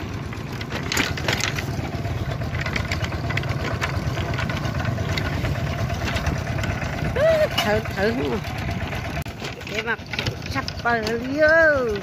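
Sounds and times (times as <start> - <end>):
cart rattling and knocking: 0.0 - 12.0
tractor engine chugging: 0.0 - 12.0.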